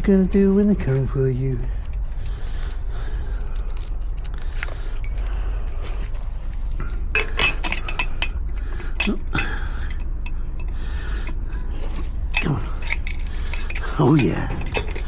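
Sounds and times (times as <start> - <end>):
steady low rumble: 0.0 - 15.0
steel parts clinking: 0.0 - 15.0.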